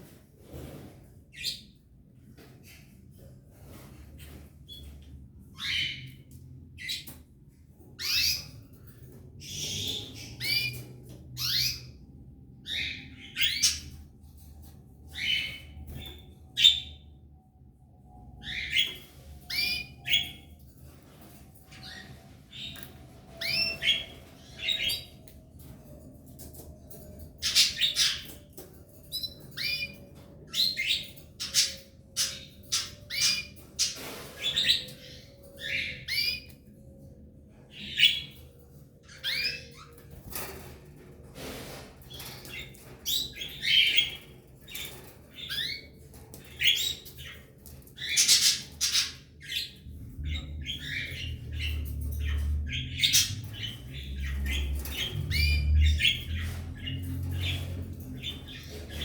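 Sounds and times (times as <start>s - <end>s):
canaries chirping: 0.0s - 17.3s, 18.3s - 59.0s.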